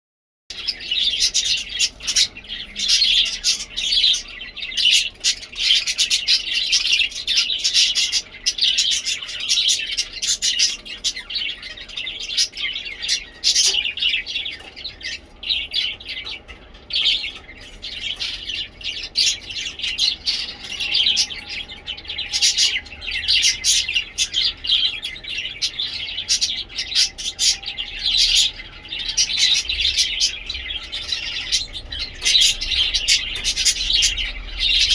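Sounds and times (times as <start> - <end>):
budgies chirping: 0.5 - 34.9.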